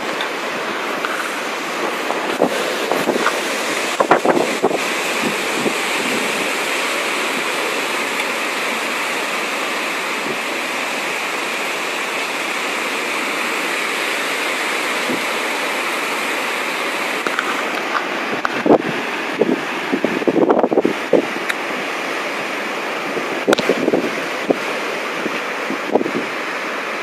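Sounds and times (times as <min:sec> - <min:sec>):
rushing wind and water: 0:00.0 - 0:27.0.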